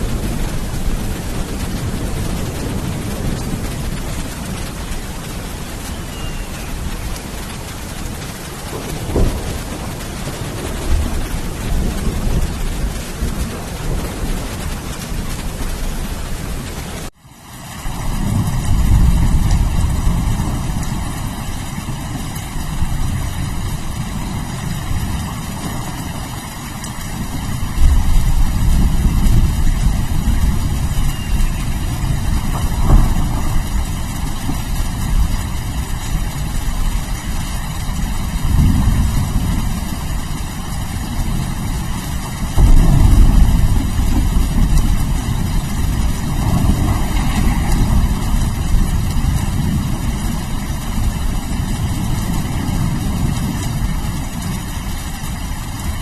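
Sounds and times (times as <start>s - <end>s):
rolling thunder: 0.0s - 17.1s, 17.8s - 56.0s
steady rain: 0.0s - 56.0s.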